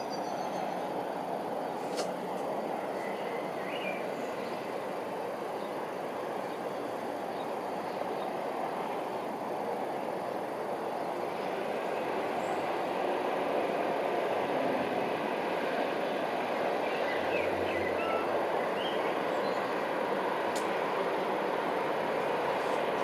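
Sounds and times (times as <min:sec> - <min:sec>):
distant traffic rumble: 0:00.0 - 0:23.0.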